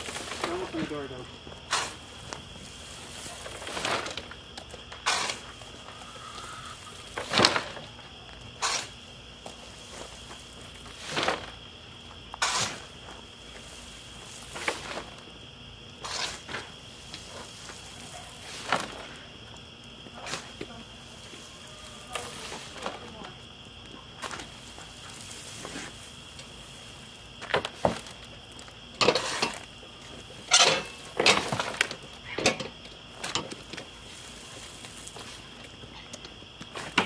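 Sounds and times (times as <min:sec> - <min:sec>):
shovel scooping wood chips: 0:00.0 - 0:11.6, 0:12.2 - 0:15.3, 0:16.0 - 0:19.3, 0:20.2 - 0:23.3, 0:24.2 - 0:32.0, 0:33.2 - 0:35.8
high insect trill: 0:00.0 - 0:37.0.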